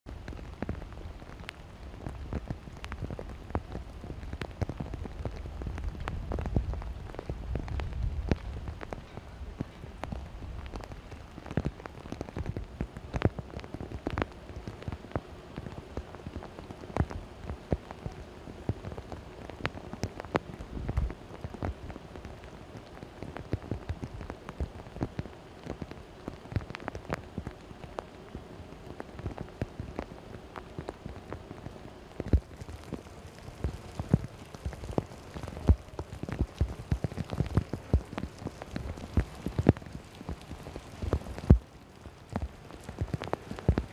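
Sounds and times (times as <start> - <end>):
raindrops pattering on hard surfaces: 0.0 - 43.9
steady wash of rain: 0.0 - 43.9.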